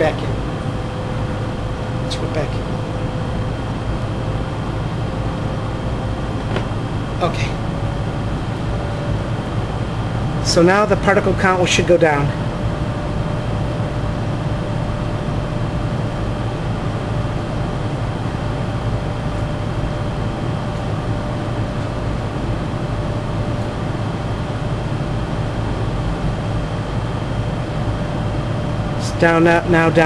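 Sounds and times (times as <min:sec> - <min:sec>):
air handler blower running: 0:00.0 - 0:30.0.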